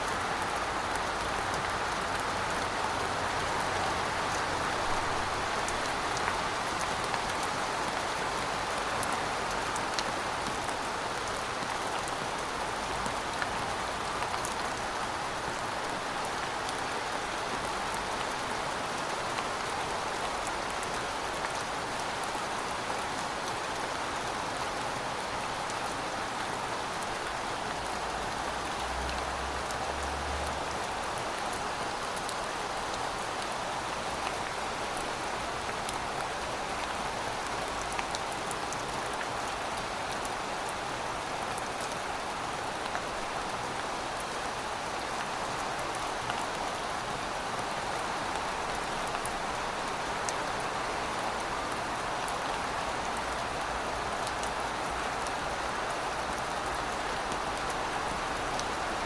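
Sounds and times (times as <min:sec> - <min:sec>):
heavy rain falling: 0:00.0 - 0:59.0
raindrops ticking on surfaces: 0:00.1 - 0:59.0.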